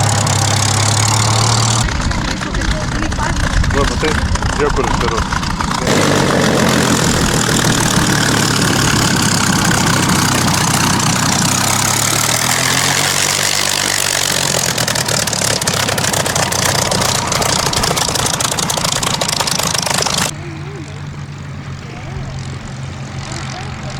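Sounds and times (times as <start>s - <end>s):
piston aircraft engine idling: 0.0s - 23.9s.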